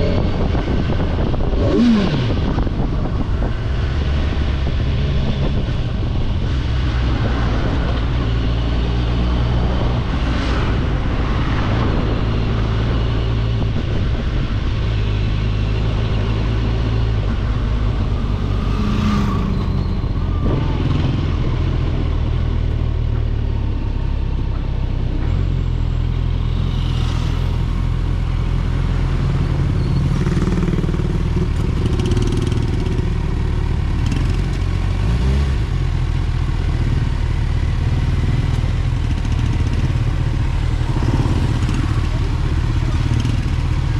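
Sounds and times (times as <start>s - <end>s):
motorcycle engine running: 0.0s - 24.7s, 25.4s - 43.9s.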